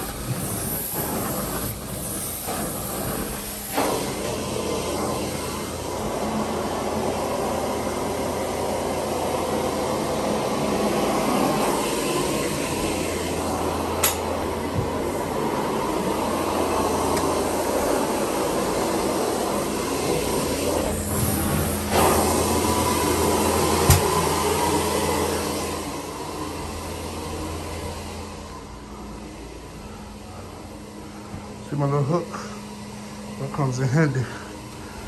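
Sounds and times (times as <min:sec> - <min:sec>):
carpet cleaning machine running: 0:00.0 - 0:35.0.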